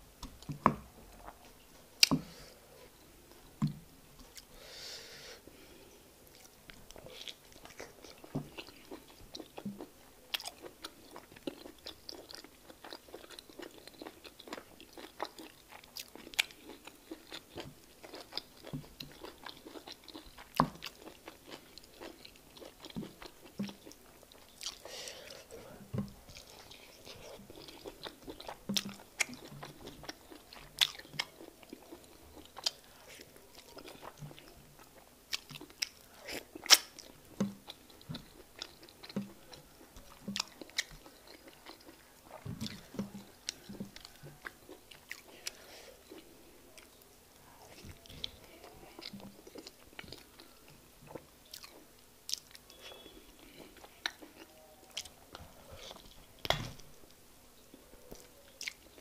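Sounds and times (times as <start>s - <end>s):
wet chewing and smacking: 6.2s - 47.1s, 47.7s - 59.0s.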